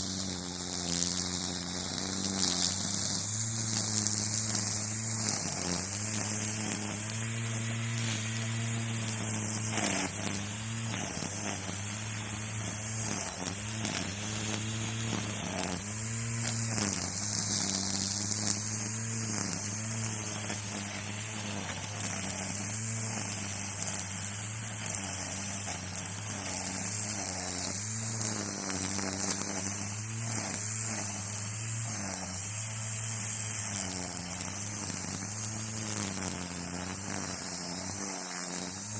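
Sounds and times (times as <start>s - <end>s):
string trimmer running: 0.0s - 38.9s
trimmer line whirring hiss: 0.0s - 38.9s.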